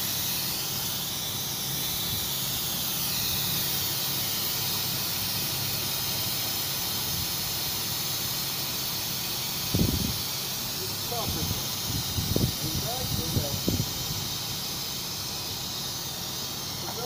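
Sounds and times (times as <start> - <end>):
refrigerant hissing from hose: 0.0 - 17.0.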